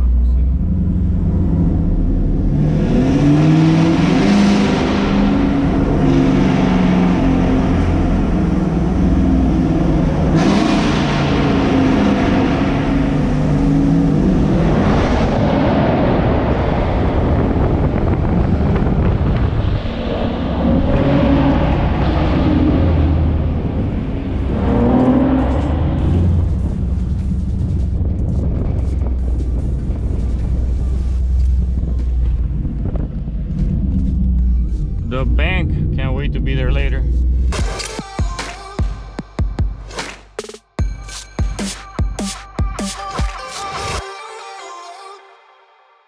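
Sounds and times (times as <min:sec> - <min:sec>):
car exhaust revving in a tunnel: 0:00.0 - 0:37.6.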